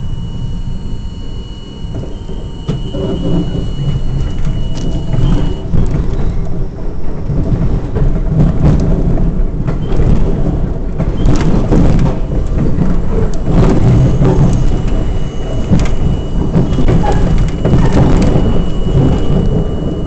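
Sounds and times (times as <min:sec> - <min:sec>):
steel wheels clattering on track: 0:00.0 - 0:20.0
subway car rumble: 0:00.0 - 0:20.0.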